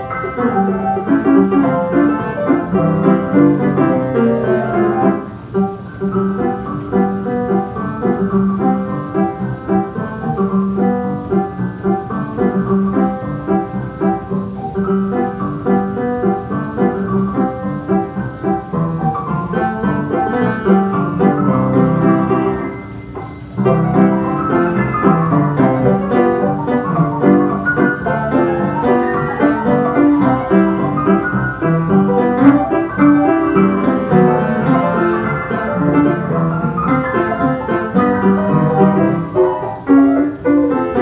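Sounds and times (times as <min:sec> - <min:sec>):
instrumental piano music: 0:00.0 - 0:41.0.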